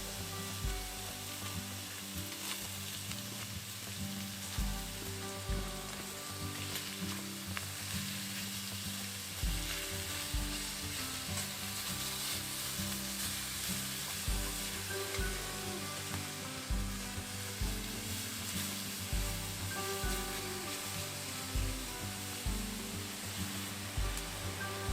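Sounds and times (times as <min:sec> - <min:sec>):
background music: 0:00.0 - 0:24.9
food sizzling in a pan: 0:00.0 - 0:24.9.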